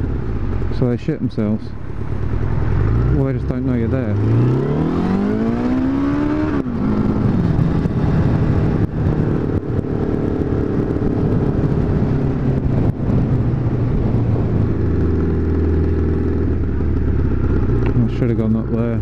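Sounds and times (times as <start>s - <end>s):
motorcycle engine running: 1.9s - 19.0s.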